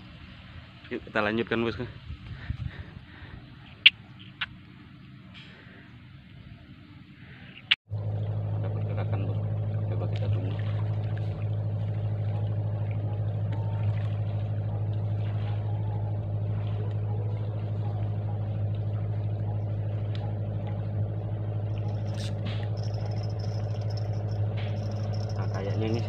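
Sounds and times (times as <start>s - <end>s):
engine droning steadily: 0.0s - 26.0s.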